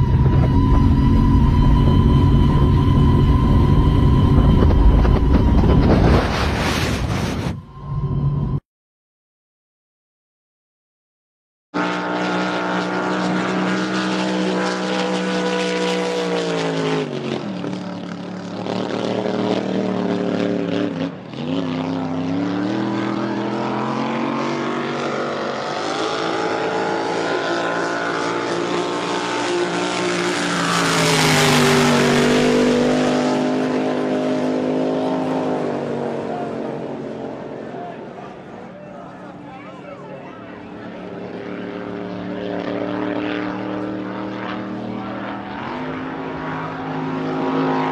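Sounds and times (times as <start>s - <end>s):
powerboat engine running hard: 0.0s - 6.3s, 11.8s - 47.9s
rushing of boat passing: 0.0s - 8.6s, 11.8s - 47.9s.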